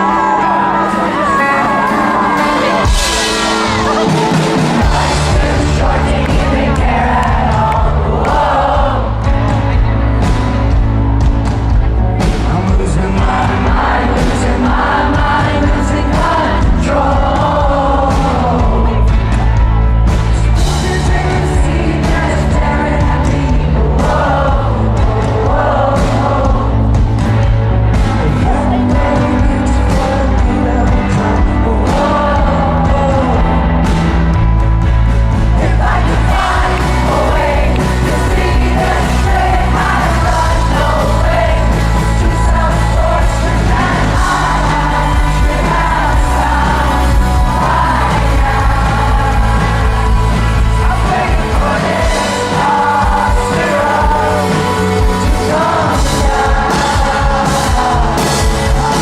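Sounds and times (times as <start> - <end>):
lead singer singing: 0.0 - 59.0
live rock band playing: 0.0 - 59.0.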